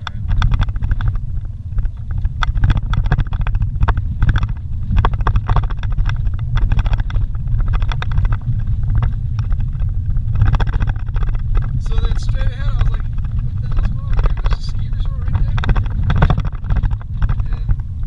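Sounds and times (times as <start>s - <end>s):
rattles and knocks over bumps: 0.0s - 18.0s
vehicle engine and road rumble: 0.0s - 18.0s.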